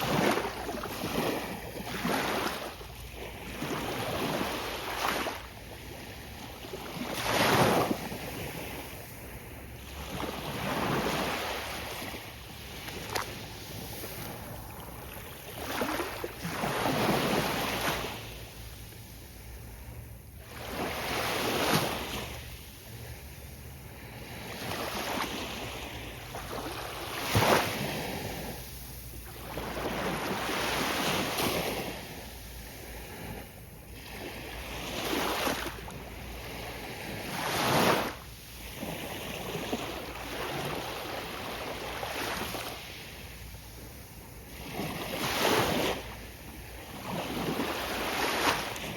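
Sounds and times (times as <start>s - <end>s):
low rumble of sea: 0.0s - 48.9s
waves breaking on beach: 0.0s - 48.9s.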